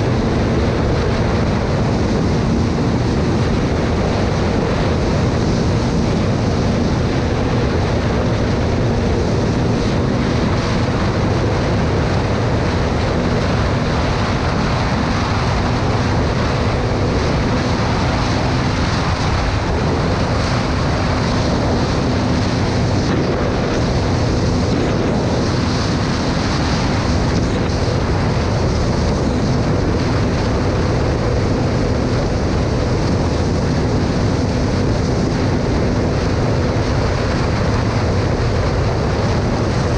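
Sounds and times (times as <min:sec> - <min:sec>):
motorcycle engine drone: 0:00.0 - 0:39.9
wind rush over microphone: 0:00.0 - 0:39.9.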